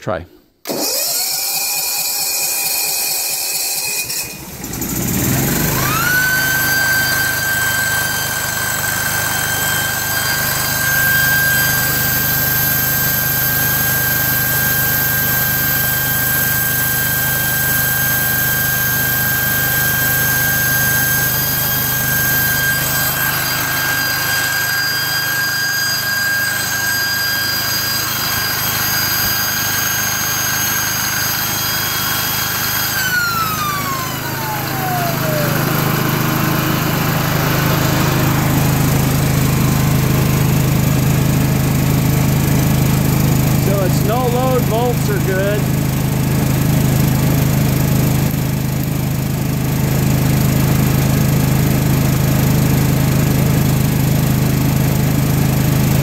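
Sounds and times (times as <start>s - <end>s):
electric starter cranking: 0.6s - 56.0s
generator engine running: 4.4s - 56.0s.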